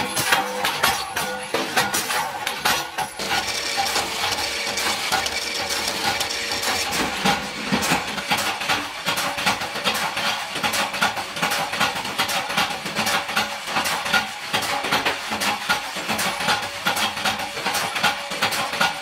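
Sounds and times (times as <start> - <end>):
workshop machinery running: 0.0 - 19.0.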